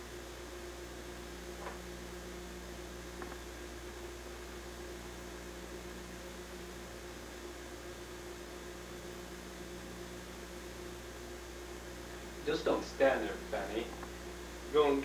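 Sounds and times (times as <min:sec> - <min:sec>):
constant hiss: 0:00.0 - 0:15.0
electrical hum: 0:00.0 - 0:15.0.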